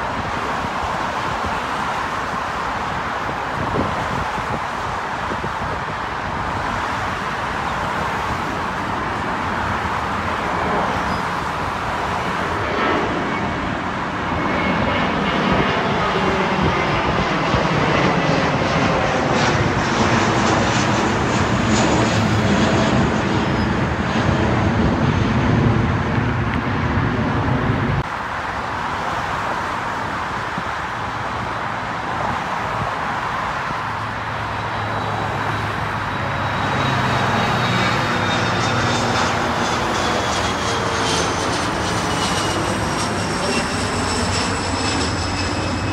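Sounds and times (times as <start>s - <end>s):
high jet engine whine: 0.0s - 45.9s
jet engines roaring overhead: 0.0s - 45.9s.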